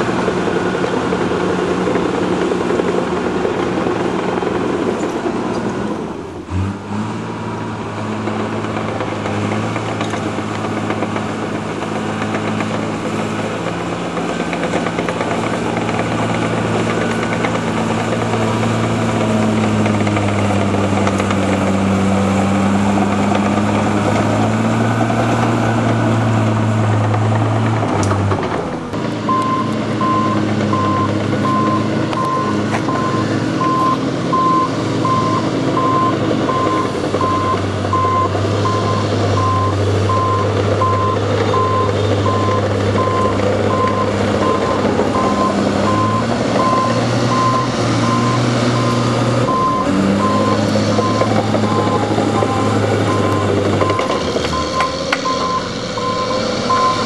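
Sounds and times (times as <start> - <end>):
diesel engine drone: 0.0 - 57.0.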